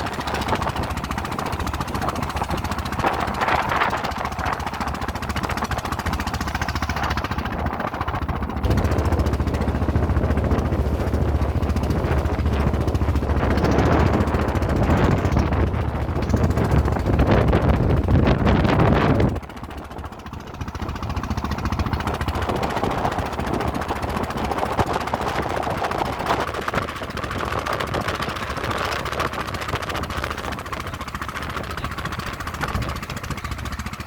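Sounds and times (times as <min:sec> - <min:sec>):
boat engine chugging: 0:00.0 - 0:34.0.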